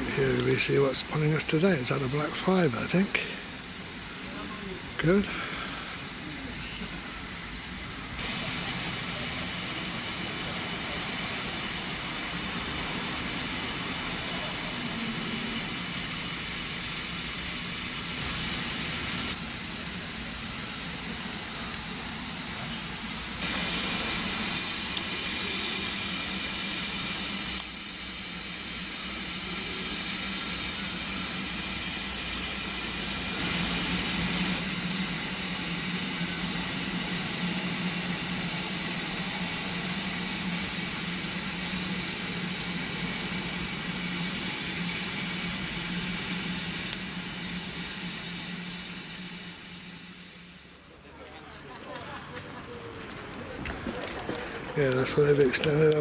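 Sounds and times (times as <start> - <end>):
steam hissing: 0.0 - 51.1.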